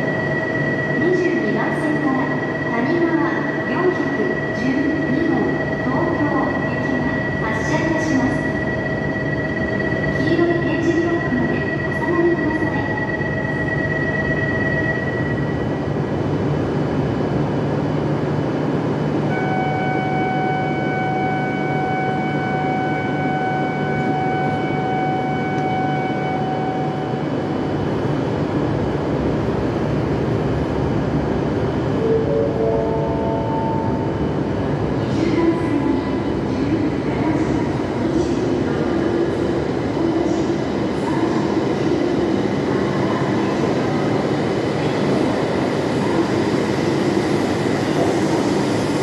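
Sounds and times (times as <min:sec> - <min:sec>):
train and platform hum: 0:00.0 - 0:49.0.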